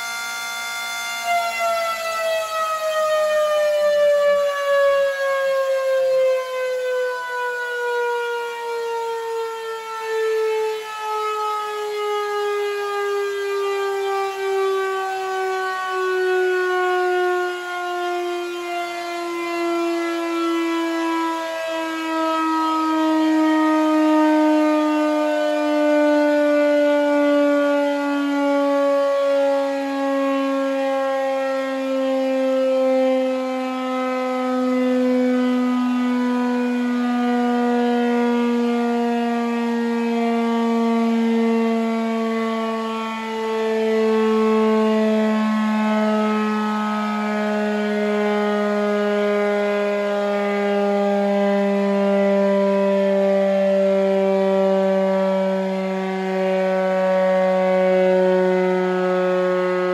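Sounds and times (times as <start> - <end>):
air raid siren wailing: 0.0 - 59.9.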